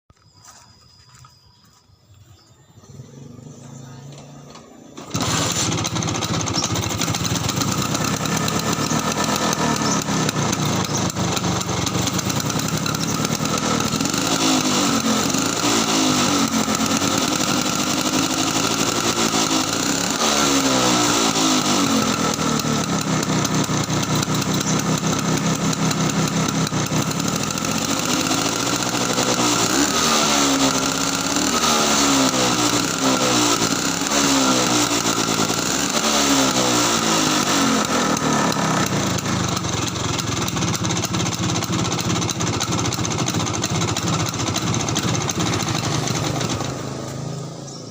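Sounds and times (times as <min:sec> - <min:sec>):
scooter engine idling and revving: 0:02.6 - 0:47.9.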